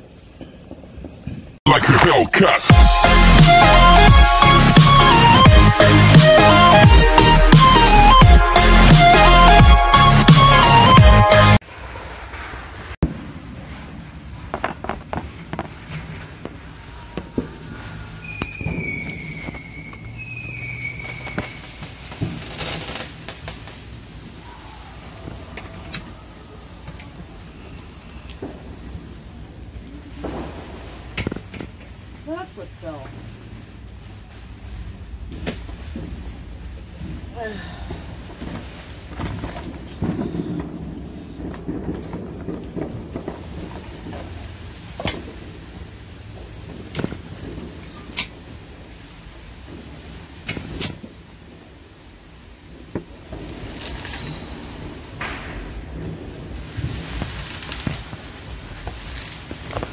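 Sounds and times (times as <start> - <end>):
night insects chirping: 0.0 - 9.3, 11.6 - 59.9
fireworks bangs: 0.0 - 59.9.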